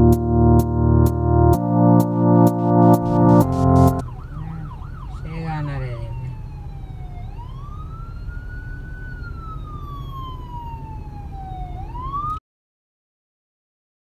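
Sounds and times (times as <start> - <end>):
ambulance siren wailing: 0.0 - 12.4.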